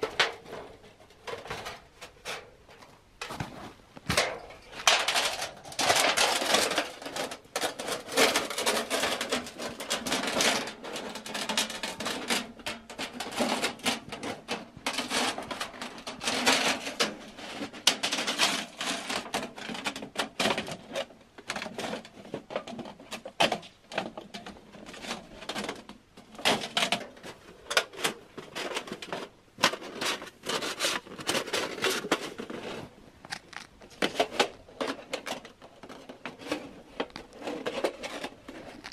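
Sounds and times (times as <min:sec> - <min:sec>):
metal sheet clicking and crinkling: 0:00.0 - 0:38.9.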